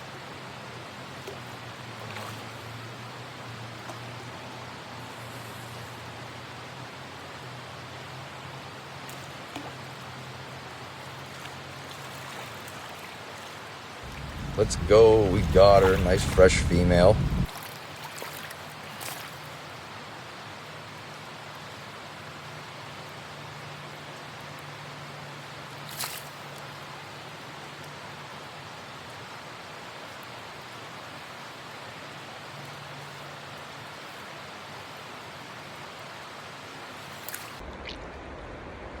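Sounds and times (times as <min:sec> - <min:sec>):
stream water flowing: 0:00.0 - 0:05.1, 0:05.7 - 0:39.0.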